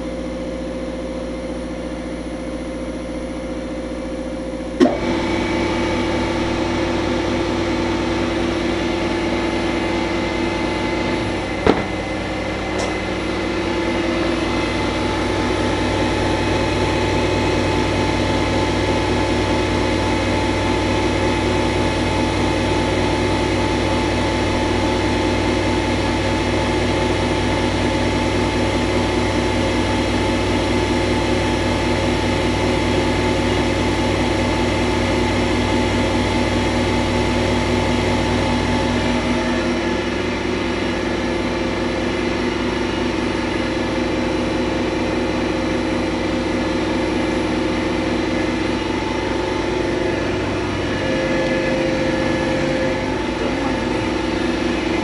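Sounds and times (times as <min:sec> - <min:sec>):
machinery humming: 0:00.0 - 0:55.0.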